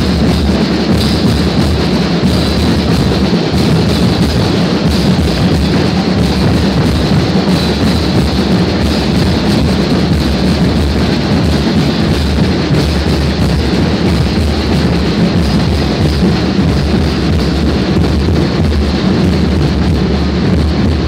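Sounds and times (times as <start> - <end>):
procession drums playing: 0.0 - 21.0.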